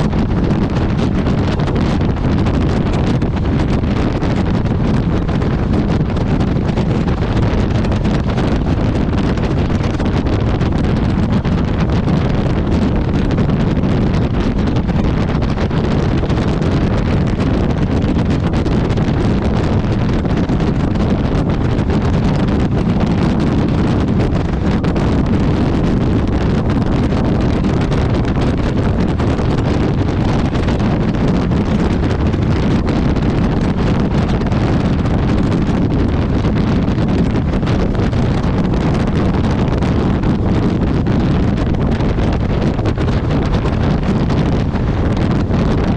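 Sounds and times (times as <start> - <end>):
motorcycle engine and road noise: 0.0 - 45.9
wind buffeting microphone: 0.0 - 45.9.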